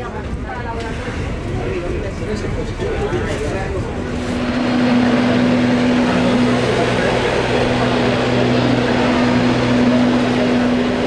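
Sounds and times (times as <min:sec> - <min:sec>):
diesel train engine humming: 0:00.0 - 0:11.0.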